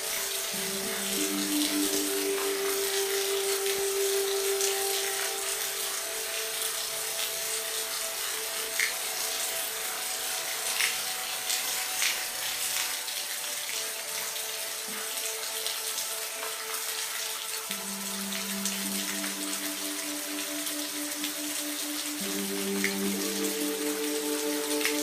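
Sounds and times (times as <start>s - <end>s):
rain drops: 0.0s - 25.0s
rain hissing: 0.0s - 25.0s.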